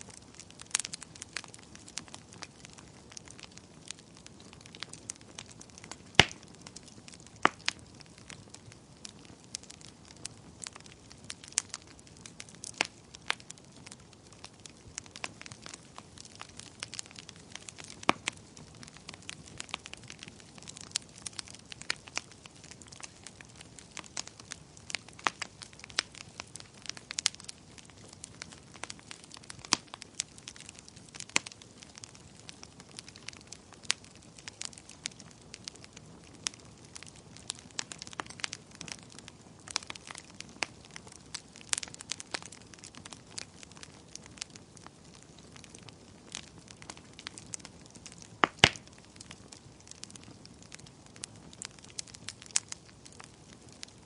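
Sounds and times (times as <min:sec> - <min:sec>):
soft hiss of flames: 0:00.0 - 0:54.0
wood fire crackling: 0:00.0 - 0:54.0.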